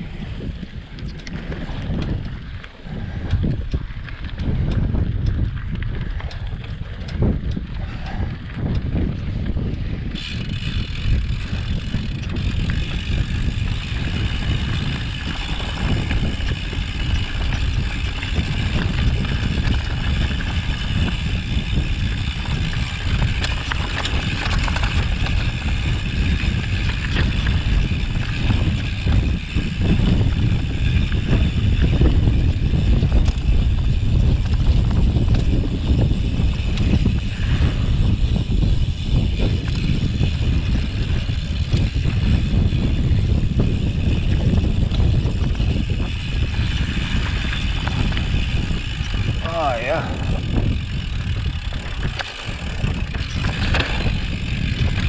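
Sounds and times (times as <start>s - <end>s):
bike rattling over stones: 0.0s - 55.0s
wind rumbling on microphone: 0.0s - 55.0s.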